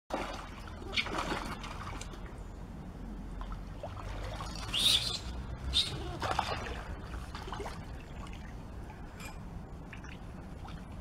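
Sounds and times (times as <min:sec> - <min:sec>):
water splashing and sloshing: 0:00.1 - 0:11.0.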